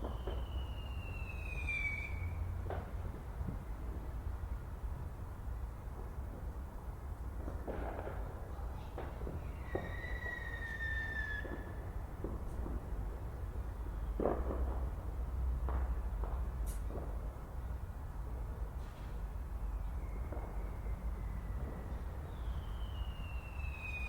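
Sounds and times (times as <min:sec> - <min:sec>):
whistling firework: 0:00.0 - 0:04.6, 0:07.4 - 0:17.8, 0:18.8 - 0:24.0
firework bangs and crackles: 0:00.0 - 0:24.0.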